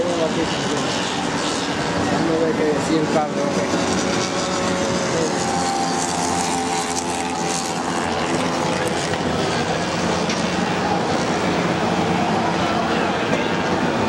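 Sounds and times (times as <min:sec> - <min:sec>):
scooter engines buzzing: 0:00.0 - 0:14.0.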